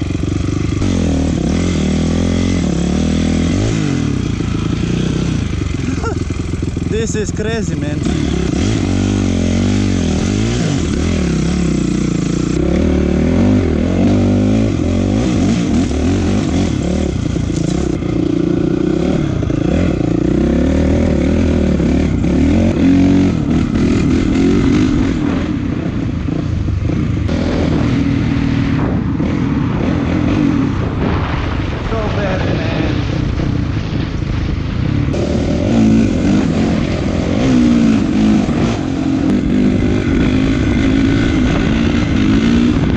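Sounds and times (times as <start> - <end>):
dirt bike engine revving: 0.0 - 34.0, 34.8 - 42.9.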